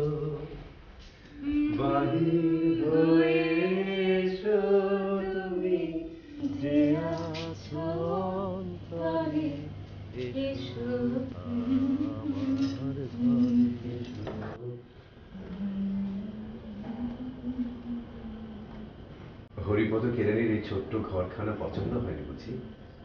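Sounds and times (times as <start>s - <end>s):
person singing slow song: 0.0s - 19.2s.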